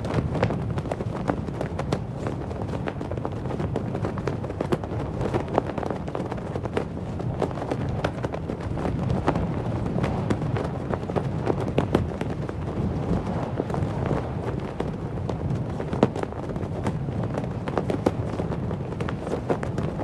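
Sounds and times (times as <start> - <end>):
flag flapping in wind: 0.0 - 20.0
low wind rumble: 0.0 - 20.0.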